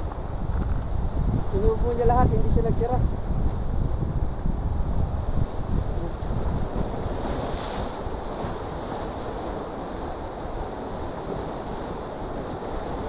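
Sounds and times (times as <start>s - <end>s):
sea surf breaking over rocks: 0.0s - 13.0s
wind buffeting microphone: 0.0s - 13.0s.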